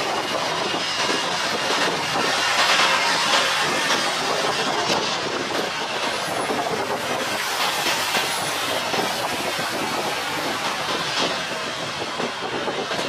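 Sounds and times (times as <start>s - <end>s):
jet engines rushing hiss: 0.0s - 13.0s.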